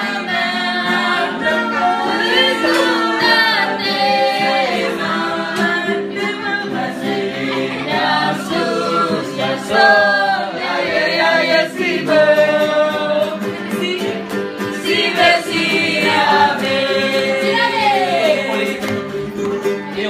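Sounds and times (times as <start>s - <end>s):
voices singing together: 0.0s - 20.0s.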